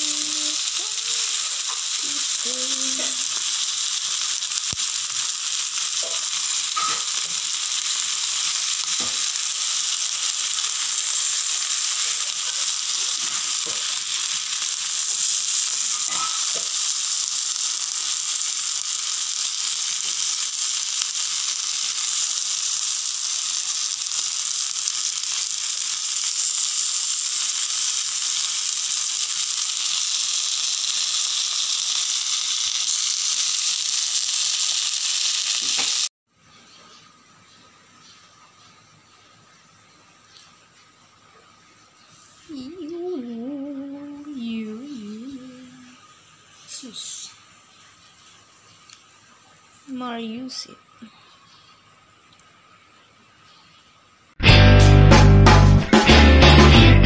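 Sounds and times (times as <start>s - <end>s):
chicken sizzling on grill pan: 0.0s - 36.1s, 37.9s - 50.7s.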